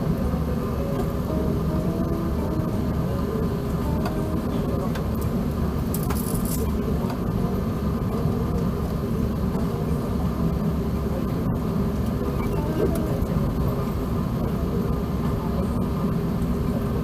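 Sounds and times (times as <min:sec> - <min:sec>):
low cabin rumble: 0:00.0 - 0:17.0.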